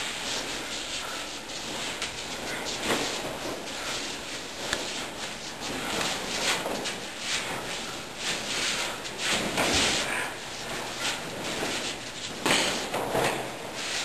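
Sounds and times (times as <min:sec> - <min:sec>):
feet scuffing on floor: 0:00.0 - 0:14.0.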